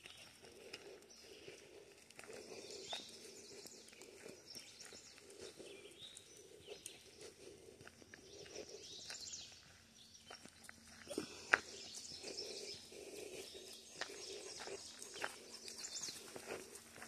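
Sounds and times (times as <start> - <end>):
birds chirping: 0.0 - 17.0
footsteps crunching on gravel: 0.0 - 17.0.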